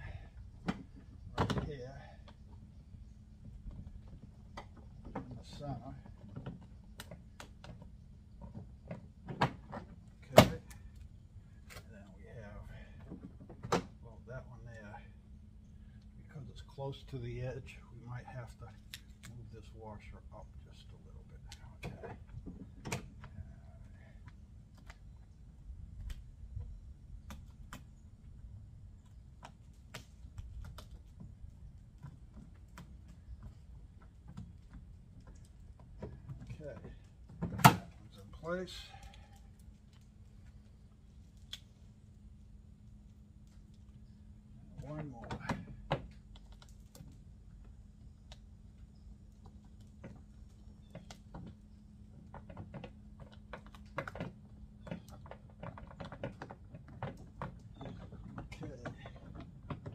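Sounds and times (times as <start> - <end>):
faint low hum: 0.0 - 59.9
low steady rumble: 0.0 - 59.9.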